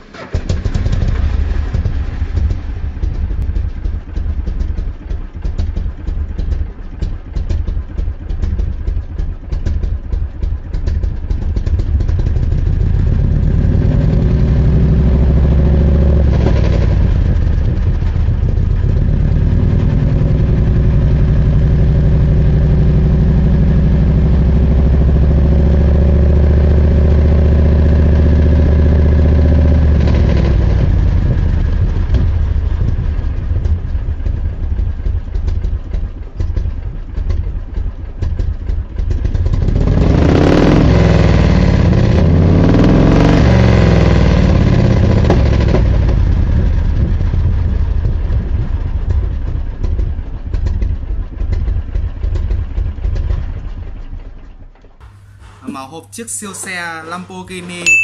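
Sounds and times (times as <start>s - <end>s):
crackling rumble with clicks: 0.0s - 55.5s
car engine idling: 0.0s - 56.8s.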